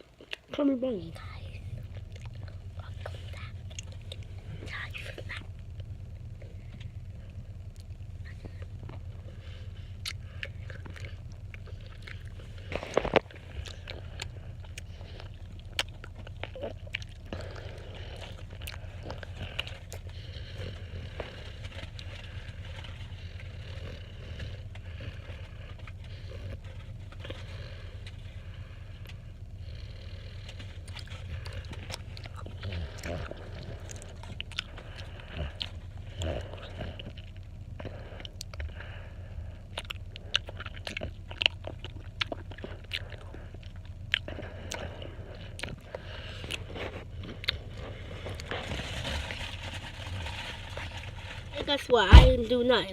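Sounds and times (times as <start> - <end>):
mouth chewing noises: 0.0 - 51.9
low hum: 0.0 - 52.9.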